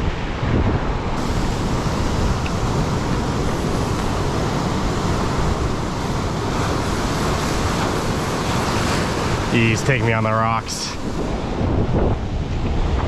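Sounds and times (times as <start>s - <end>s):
wind buffeting microphone: 0.0s - 13.0s
surf breaking on rocky shore: 1.2s - 13.0s.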